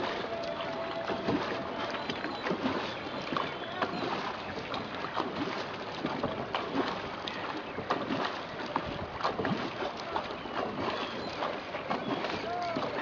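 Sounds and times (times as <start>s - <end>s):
moving water wash: 0.0s - 13.0s
paddle splashing water: 0.0s - 13.0s.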